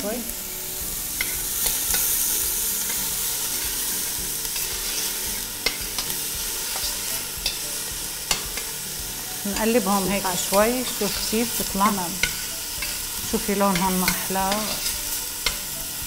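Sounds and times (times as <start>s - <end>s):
onion and garlic sizzling in pot: 0.0s - 16.0s.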